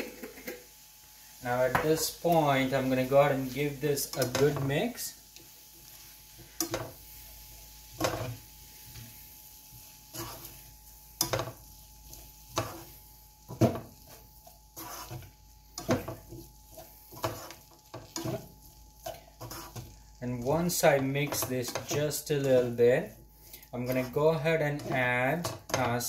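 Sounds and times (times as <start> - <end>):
spatula scraping frying pan: 1.4 - 26.0.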